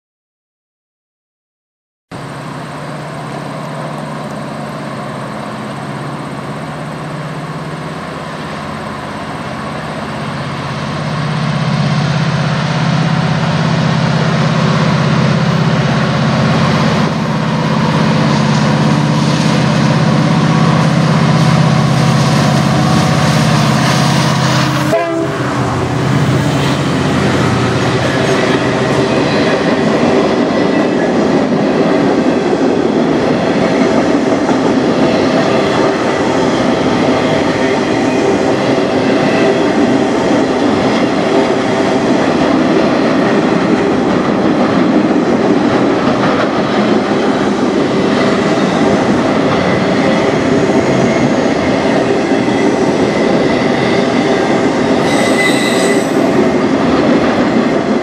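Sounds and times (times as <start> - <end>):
diesel locomotive engine drone: 2.1 - 58.0.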